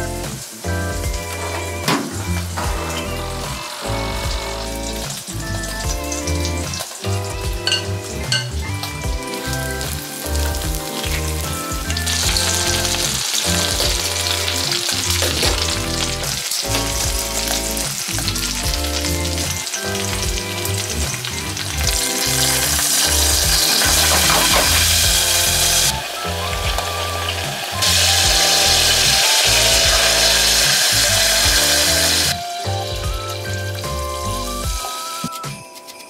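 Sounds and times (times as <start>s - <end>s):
hot oil sizzling in a pan: 0.0s - 35.2s
background music with steady beat: 0.0s - 36.0s.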